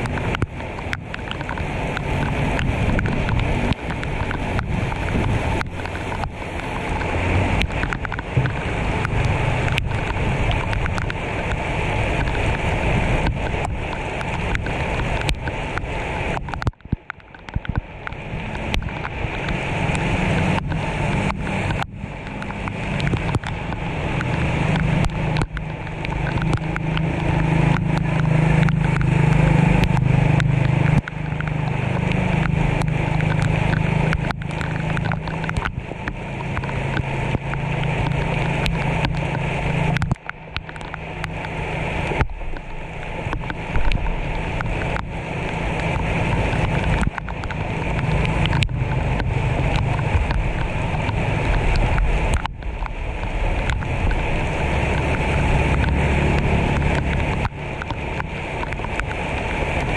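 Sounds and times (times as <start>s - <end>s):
heavy rain on a flooded street: 0.0s - 59.9s.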